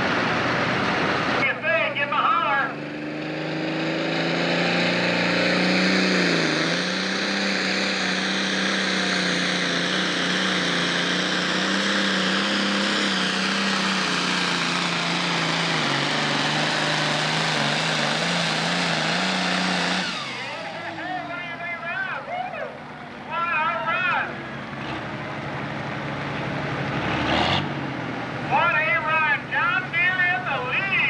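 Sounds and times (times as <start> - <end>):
tractor diesel engine at high revs: 0.0 - 31.0.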